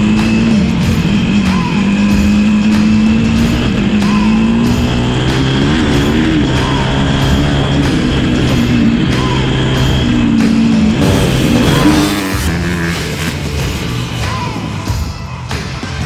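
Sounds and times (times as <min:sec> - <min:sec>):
motocross engine revving high: 0:00.0 - 0:15.1.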